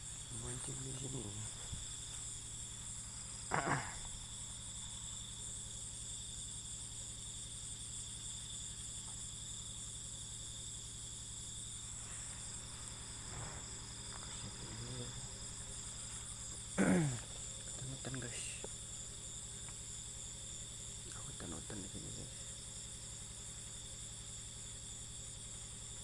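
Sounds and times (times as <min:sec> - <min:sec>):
crickets trilling: 0:00.0 - 0:26.0
low steady hum: 0:00.0 - 0:26.0.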